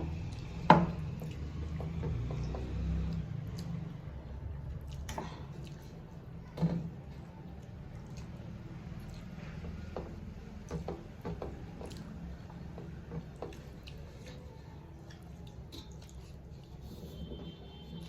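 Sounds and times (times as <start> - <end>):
wet chewing: 0.1 - 4.0, 4.6 - 6.4, 7.0 - 9.9, 10.6 - 17.2.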